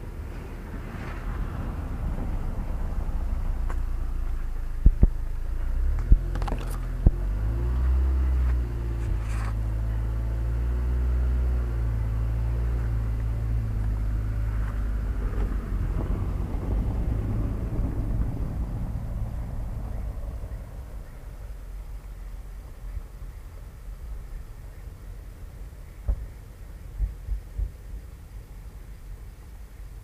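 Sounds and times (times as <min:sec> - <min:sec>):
motor vehicle engine rumbling: 0:00.0 - 0:30.0.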